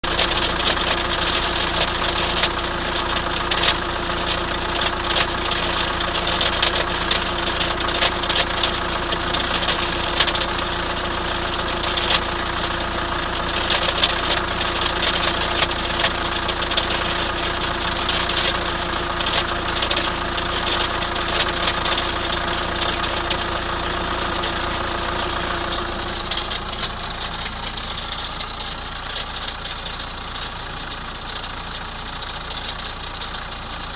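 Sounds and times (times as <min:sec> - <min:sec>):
diesel engine idling: 0:00.0 - 0:33.9
engine ticking and knocking: 0:00.0 - 0:33.9.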